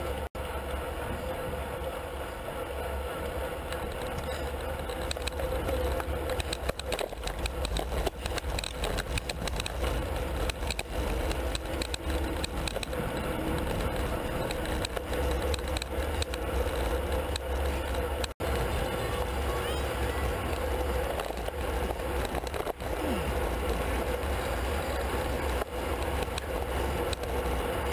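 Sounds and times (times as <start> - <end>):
bike clicks and rattles: 0.0 - 27.9
tyre and road noise: 0.0 - 27.9.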